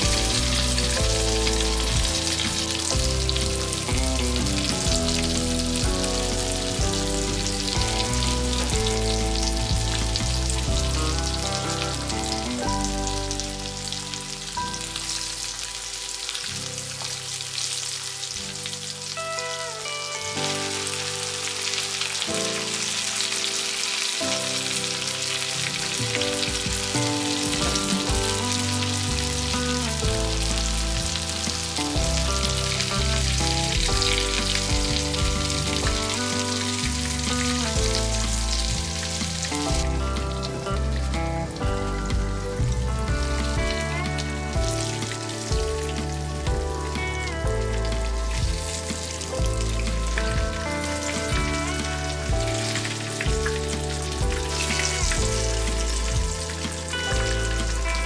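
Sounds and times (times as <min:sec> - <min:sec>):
background music: 0:00.0 - 0:58.0
chicken frying in bubbling oil: 0:00.0 - 0:58.0.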